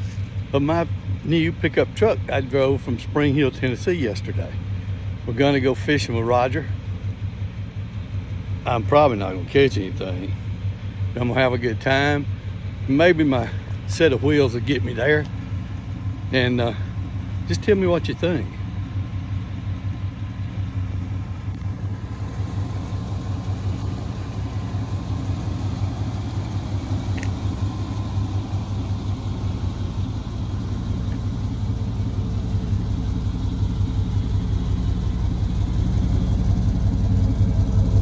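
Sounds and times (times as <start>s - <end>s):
pickup truck engine idling: 0.0s - 38.0s.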